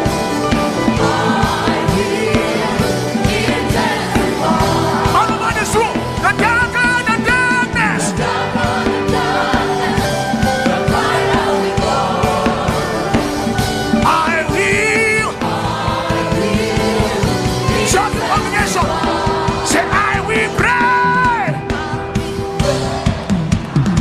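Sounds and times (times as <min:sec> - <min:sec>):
steady drum beat: 0:00.0 - 0:24.0
voices singing gospel: 0:00.0 - 0:24.0.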